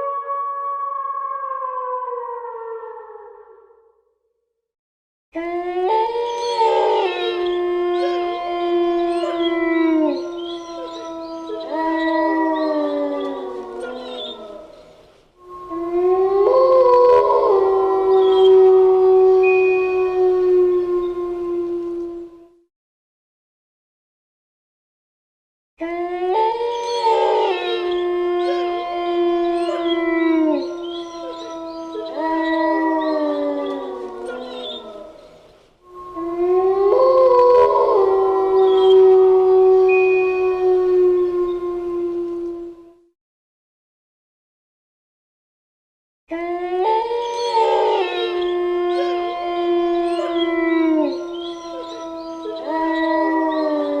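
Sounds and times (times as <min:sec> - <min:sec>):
wolves howling: 0:00.0 - 0:03.7, 0:05.4 - 0:22.6, 0:25.8 - 0:43.1, 0:46.3 - 0:54.0.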